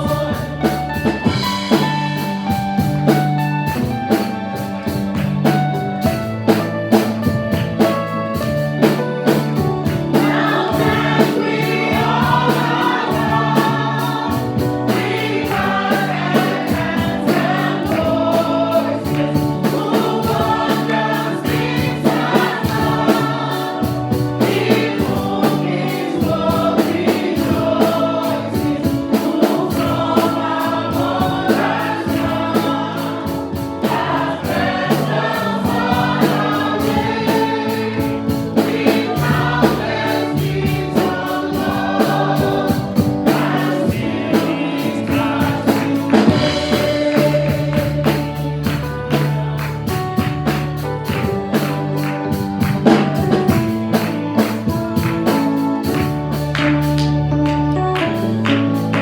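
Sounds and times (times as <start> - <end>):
choir singing: 0.0 - 2.8, 9.2 - 54.7
drum beat: 0.0 - 57.0
bass notes: 0.0 - 59.0.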